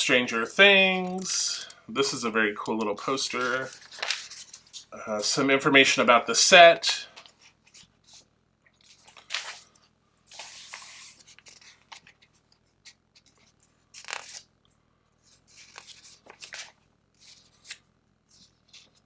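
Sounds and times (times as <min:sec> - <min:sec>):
paper pages turning: 0:00.3 - 0:04.9, 0:07.2 - 0:14.5, 0:15.2 - 0:19.0.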